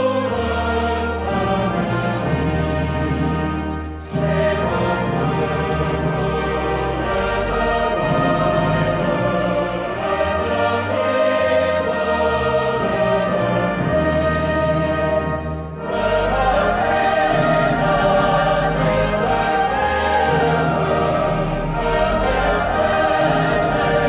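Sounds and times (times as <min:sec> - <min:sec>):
choir singing with orchestra: 0:00.0 - 0:24.0.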